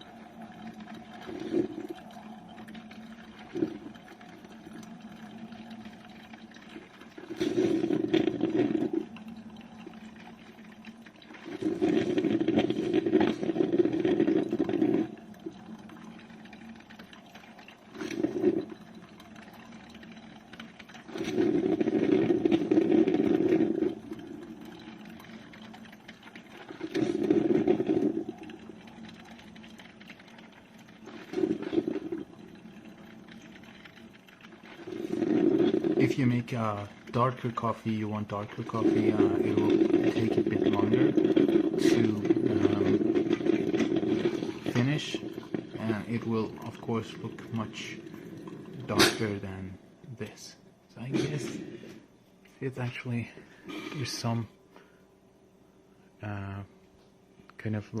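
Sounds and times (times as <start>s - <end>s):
drip coffee maker brewing: 0.0s - 58.0s
quiet hum: 0.0s - 58.0s.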